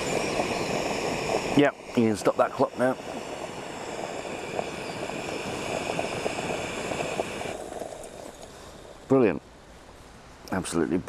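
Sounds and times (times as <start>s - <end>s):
water boiling and popping: 0.0s - 10.0s
gas stove burner hissing: 0.0s - 10.1s.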